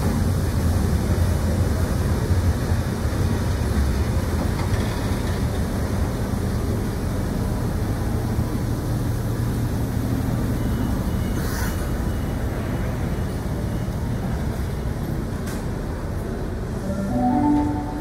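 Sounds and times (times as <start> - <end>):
train rumble and hum: 0.0 - 11.2, 11.8 - 18.0.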